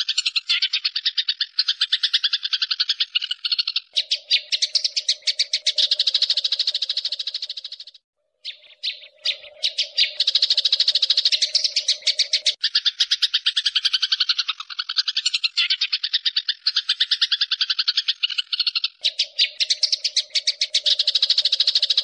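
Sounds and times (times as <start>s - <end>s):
sparrow chirping: 0.0s - 22.0s.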